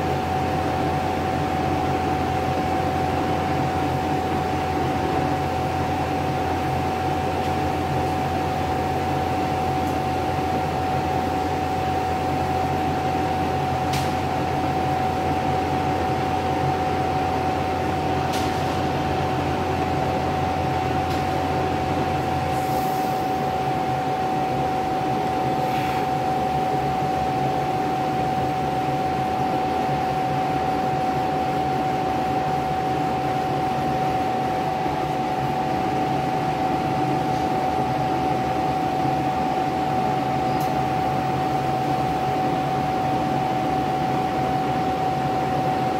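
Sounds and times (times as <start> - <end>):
engraving machine fan noise: 0.0 - 45.9.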